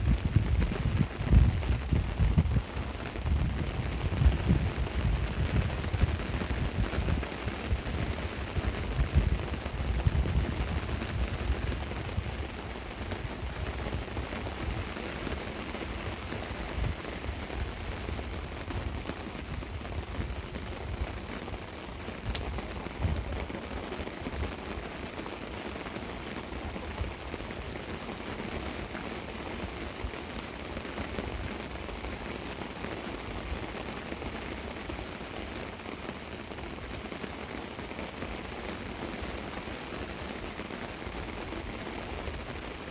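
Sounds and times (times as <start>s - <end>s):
rain pattering on a tarp: 0.0s - 42.9s.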